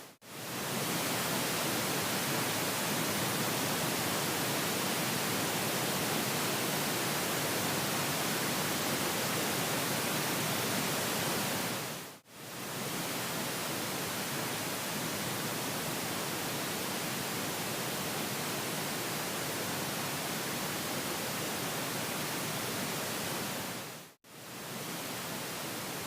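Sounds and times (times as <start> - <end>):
speaker test noise hiss: 0.0 - 26.0.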